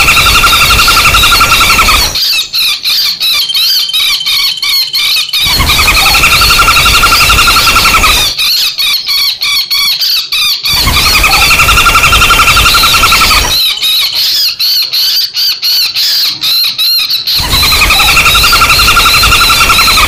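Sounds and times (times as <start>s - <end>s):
sharp harsh woodpecker calls: 0.0s - 20.0s
woodpecker rattling trill: 0.0s - 20.0s.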